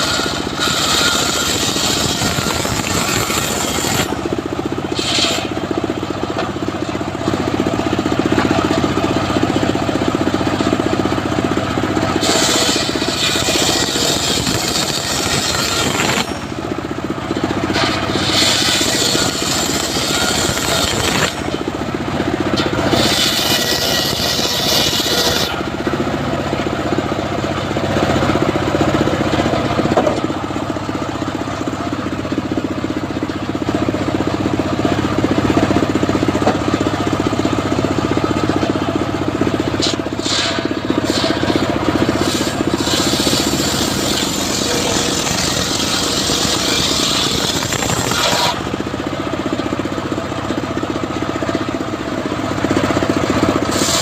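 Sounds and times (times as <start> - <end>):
saw blade whining through wood: 0.0 - 54.0
sawmill engine running: 0.0 - 54.0.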